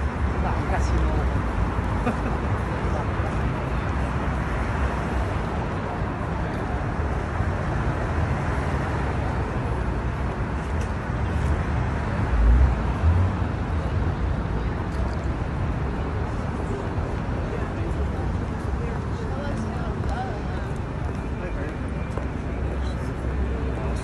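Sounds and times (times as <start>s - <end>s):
city traffic noise: 0.0s - 24.0s.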